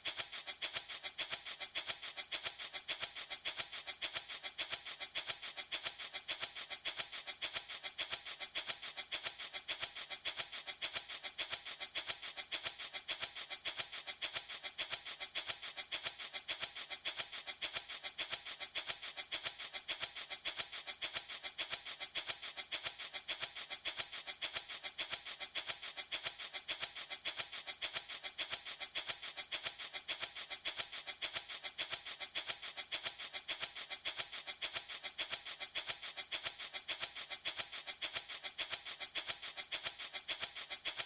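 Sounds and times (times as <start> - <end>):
baby rattle shaking: 0.0 - 41.0.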